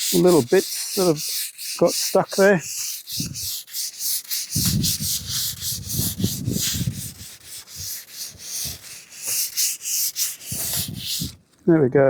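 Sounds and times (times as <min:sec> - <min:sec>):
hand sanding wood: 0:00.0 - 0:11.5.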